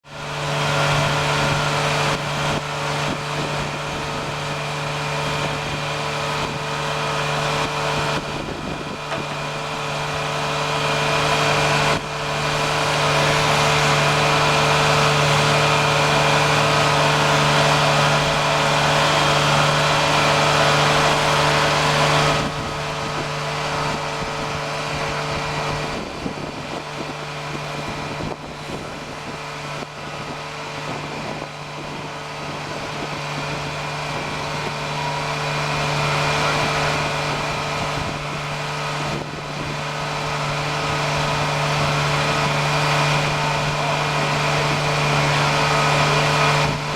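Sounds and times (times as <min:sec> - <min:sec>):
engine and blower drone: 0:00.0 - 0:46.9.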